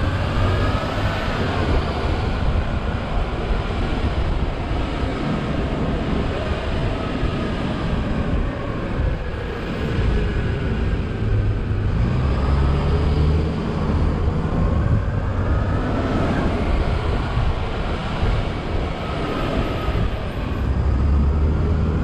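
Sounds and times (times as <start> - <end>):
bus engine low rumble: 0.0 - 22.0.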